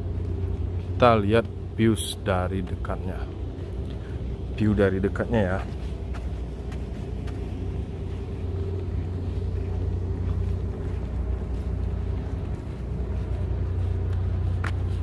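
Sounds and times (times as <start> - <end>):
boat engine rumble: 0.0 - 15.0
faint steady hum: 0.0 - 15.0.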